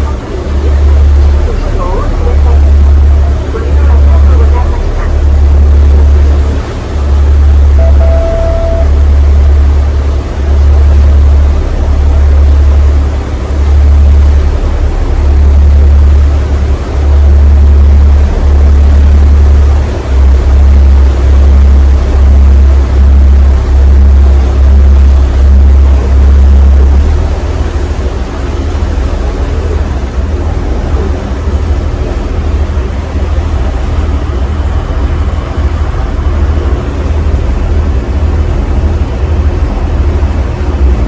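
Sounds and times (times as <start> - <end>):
ferry engine deep rumble: 0.0 - 41.0.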